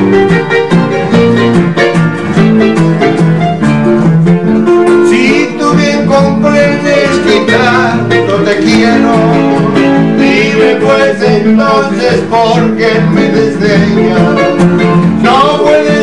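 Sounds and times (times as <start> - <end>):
electronic keyboard melody: 0.0 - 16.0.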